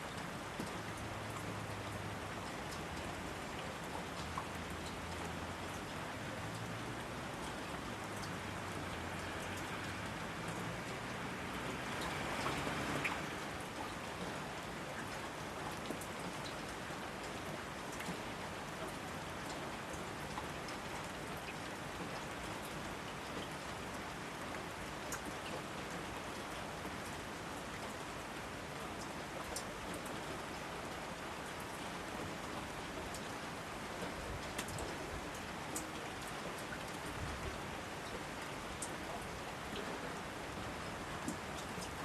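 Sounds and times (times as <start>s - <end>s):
steady rainfall hiss: 0.0s - 42.0s.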